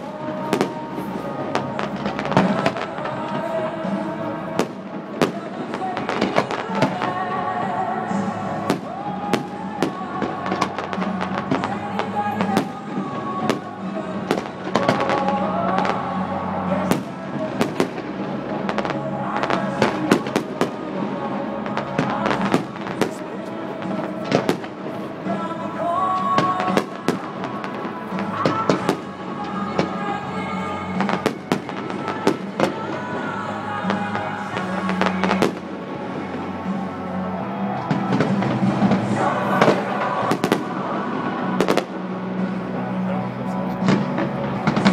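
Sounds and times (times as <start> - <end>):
fireworks bangs: 0.0 - 44.9
music playing: 0.0 - 44.9.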